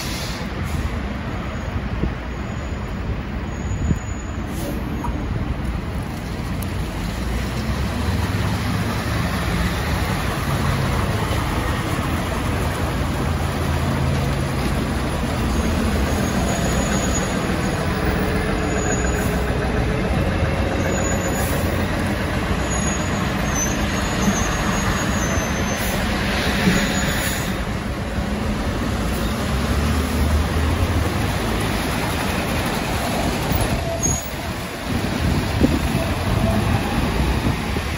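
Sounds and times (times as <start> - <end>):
bus engine drone: 0.0 - 37.9
road noise: 0.0 - 37.9.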